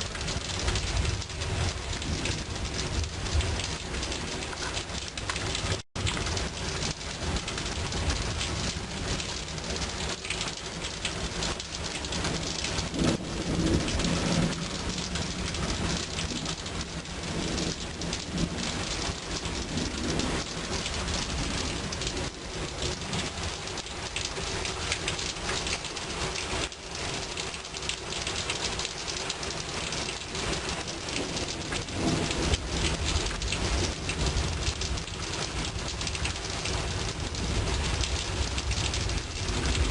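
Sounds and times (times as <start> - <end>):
thunder rumbling: 0.0 - 24.7, 28.6 - 39.9
rain falling: 0.0 - 39.9.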